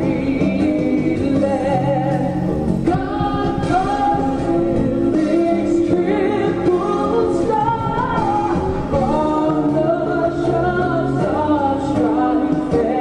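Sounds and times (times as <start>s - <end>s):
instrumental accompaniment: 0.0s - 13.0s
voices singing a slow melody: 0.0s - 13.0s.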